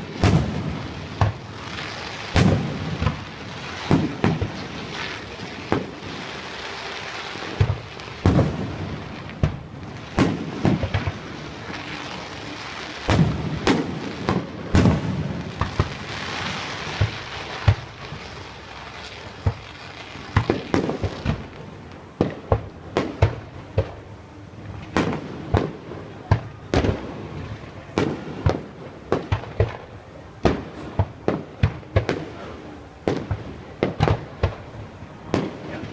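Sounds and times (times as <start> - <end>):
fireworks booming: 0.0 - 35.9
fireworks crackling: 0.0 - 35.9.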